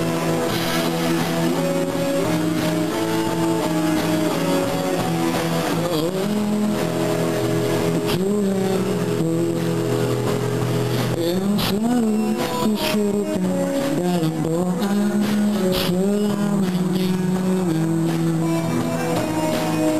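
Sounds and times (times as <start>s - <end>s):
bass and drums: 0.0s - 19.9s
electric guitar bending notes: 0.0s - 19.9s.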